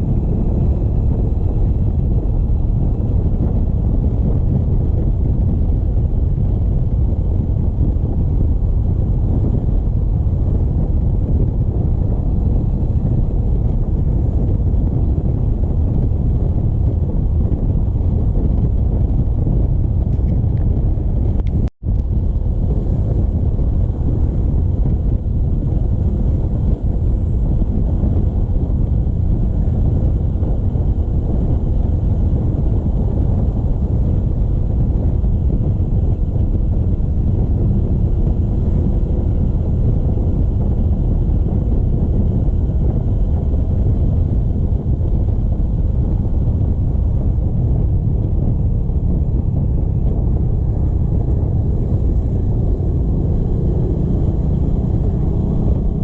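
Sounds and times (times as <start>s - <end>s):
motorcycle road and engine rumble: 0.0s - 56.0s
wind buffeting microphone: 0.0s - 56.0s.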